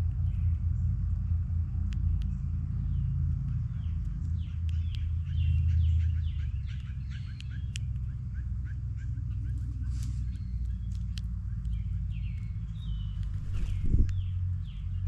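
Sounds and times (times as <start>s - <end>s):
small songbirds chirping: 0.0s - 15.0s
steady low rumble: 0.0s - 15.0s.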